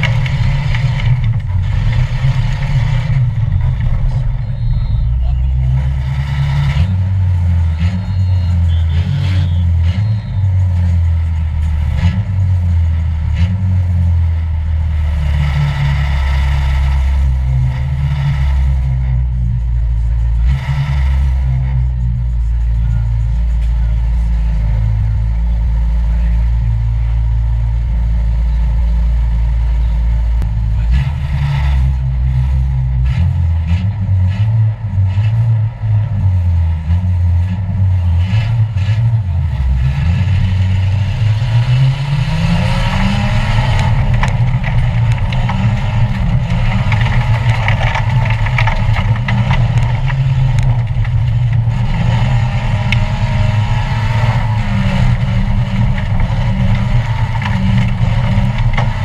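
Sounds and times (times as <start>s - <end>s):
car engine idling and revving: 0.0s - 59.0s
road noise and rattle: 0.0s - 59.0s.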